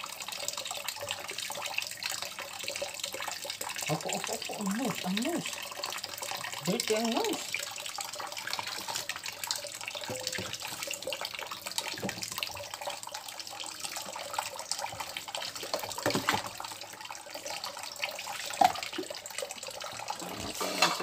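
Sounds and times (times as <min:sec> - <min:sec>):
water splashing and dripping: 0:00.0 - 0:21.0
tap running into basin: 0:00.5 - 0:21.0.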